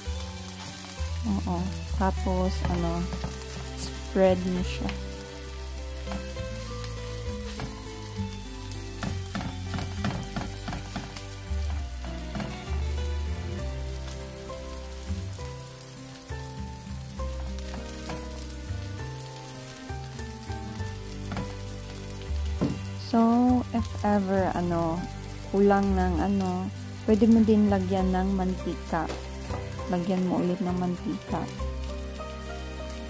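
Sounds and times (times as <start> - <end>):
batter sizzling in oil: 0.0 - 33.0.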